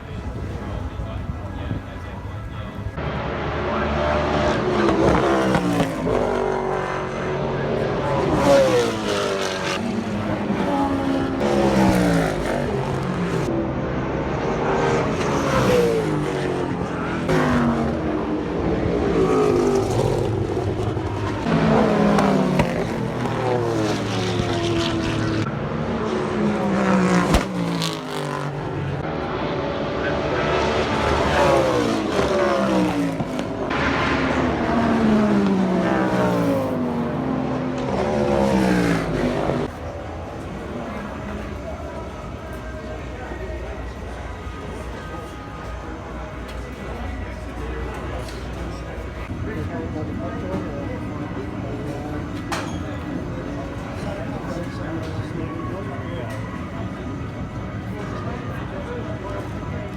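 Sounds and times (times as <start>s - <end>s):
racing car engines passing: 0.0s - 59.9s.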